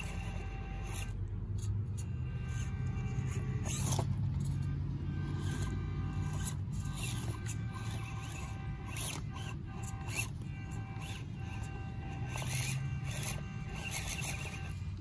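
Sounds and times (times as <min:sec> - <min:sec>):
electric motor whirring: 0:00.0 - 0:15.0
tyres scraping on rocks: 0:02.5 - 0:15.0.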